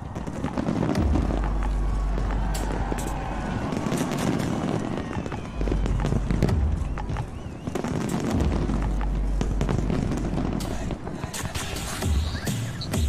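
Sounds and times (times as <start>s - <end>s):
deep fireworks booms: 0.0s - 13.0s
fireworks crackling: 0.0s - 13.0s.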